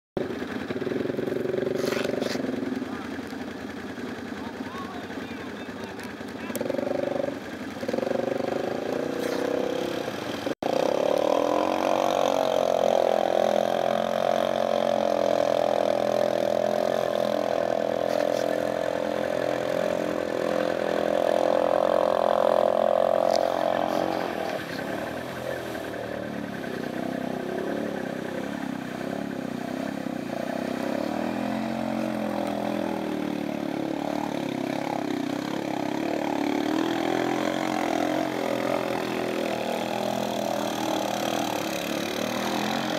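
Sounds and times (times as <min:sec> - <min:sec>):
atv engines revving: 0:00.2 - 0:42.9.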